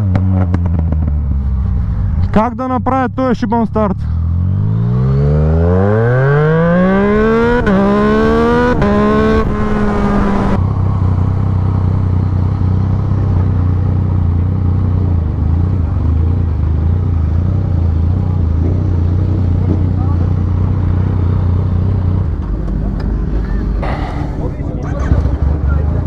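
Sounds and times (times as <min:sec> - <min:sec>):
motorcycle engine accelerating hard: 0:00.0 - 0:02.3, 0:04.0 - 0:26.0.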